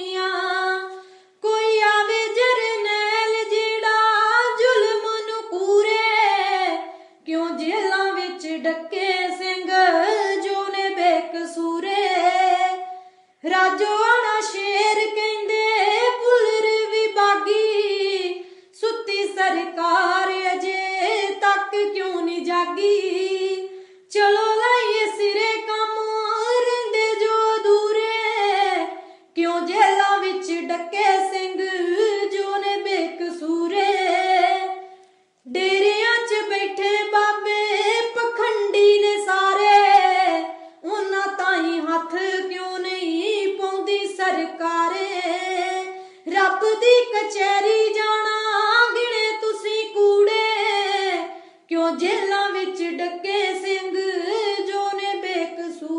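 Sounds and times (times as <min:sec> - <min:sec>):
high voice singing unaccompanied: 0:00.0 - 0:34.9, 0:35.5 - 0:55.9.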